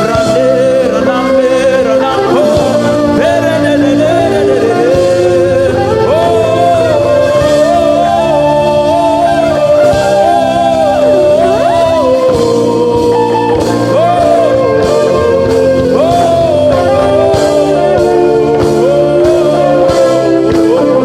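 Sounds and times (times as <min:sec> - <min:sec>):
church worship band playing: 0:00.0 - 0:21.0.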